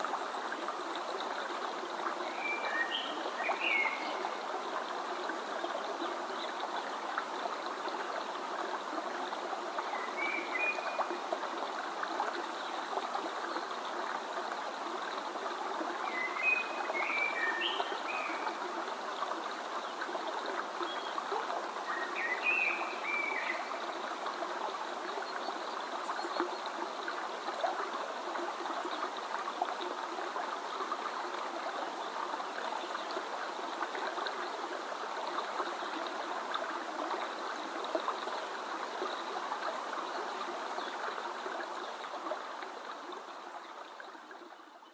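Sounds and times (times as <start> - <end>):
stream running: 0.0 - 44.9.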